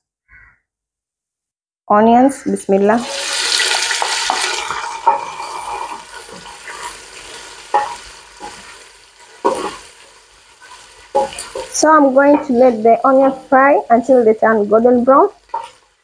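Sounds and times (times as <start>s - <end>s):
onions sizzling in hot oil: 2.8s - 16.0s.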